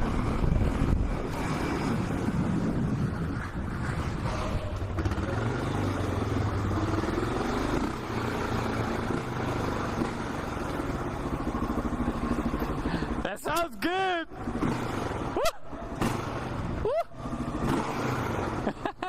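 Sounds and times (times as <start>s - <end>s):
motorcycle engine running: 0.0s - 13.6s, 14.3s - 19.0s.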